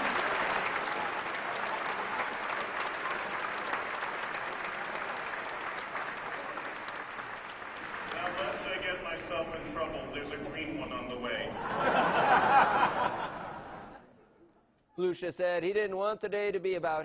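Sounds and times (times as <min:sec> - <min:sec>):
congregation applauding: 0:00.0 - 0:14.0.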